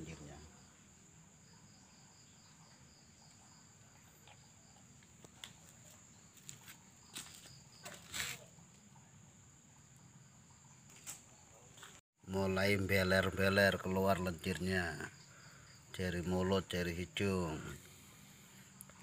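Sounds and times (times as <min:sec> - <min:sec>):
crickets trilling: 0:00.0 - 0:19.0
lower insect trill: 0:00.0 - 0:19.0.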